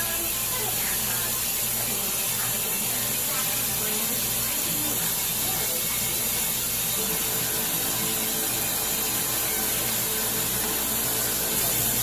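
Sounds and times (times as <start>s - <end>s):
running water from a tap: 0.0s - 12.0s.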